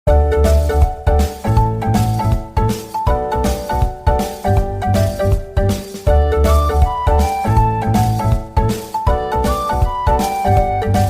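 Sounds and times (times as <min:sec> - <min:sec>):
upbeat keyboard music with bass beat: 0:00.1 - 0:11.0.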